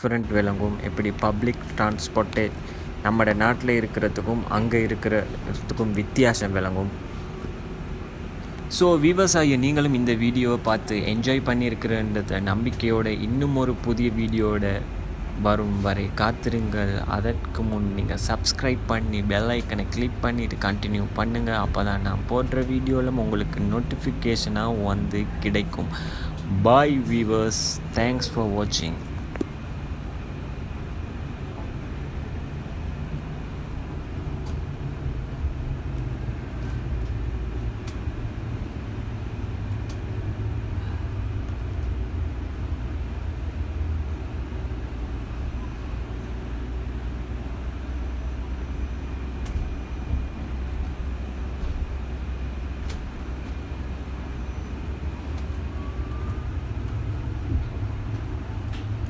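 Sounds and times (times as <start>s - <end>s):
vehicle rumbling: 0.0s - 59.0s.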